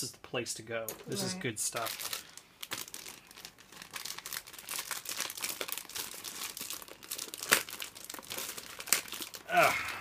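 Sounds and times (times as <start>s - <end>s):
plastic bags crinkling: 1.4s - 10.0s.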